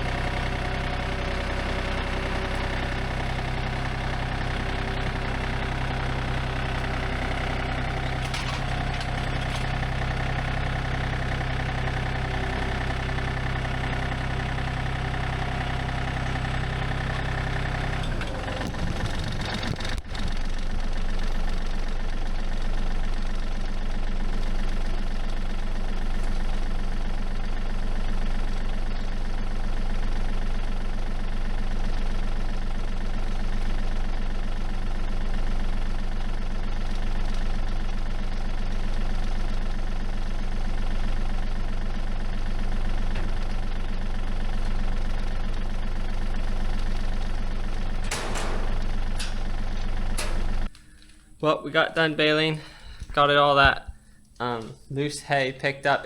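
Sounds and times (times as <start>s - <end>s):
tractor engine running: 0.0s - 55.1s.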